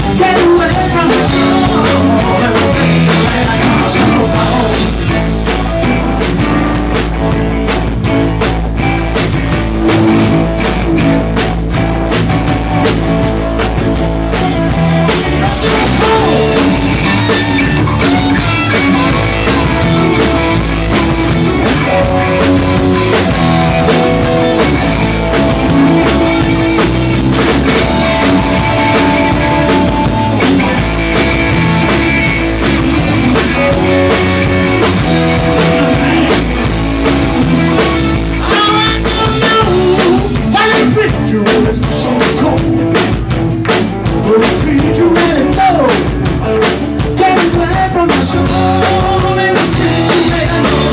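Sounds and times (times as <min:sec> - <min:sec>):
drum kit beat: 0:00.0 - 0:50.9
guitar: 0:00.0 - 0:50.9
rock band playing live: 0:00.0 - 0:50.9.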